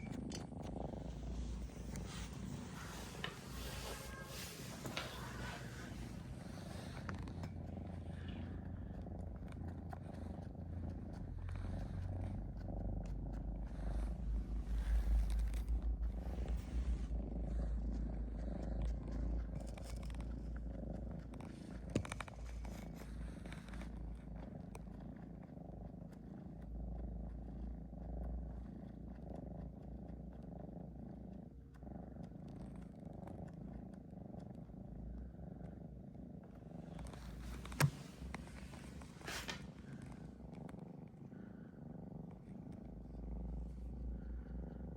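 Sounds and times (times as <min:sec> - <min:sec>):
pet snoring: 0:00.0 - 0:44.9.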